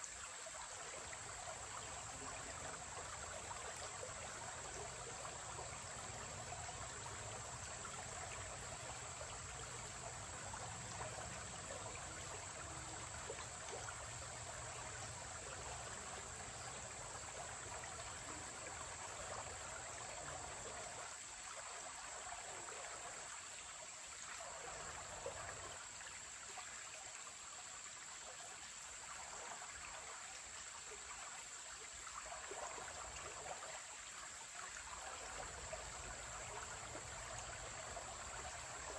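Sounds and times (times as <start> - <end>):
creek running over rocks: 0.0 - 38.9.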